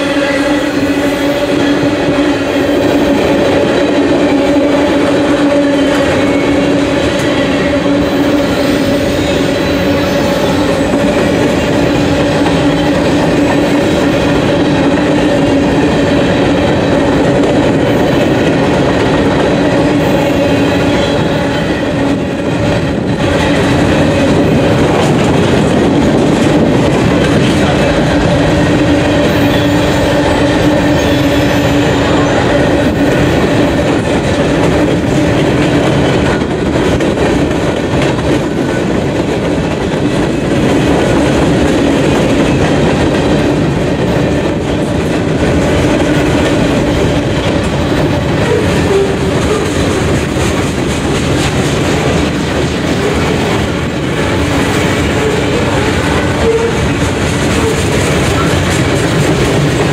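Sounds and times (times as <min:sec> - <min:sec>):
freight train wheels clattering: 0:00.0 - 0:59.9.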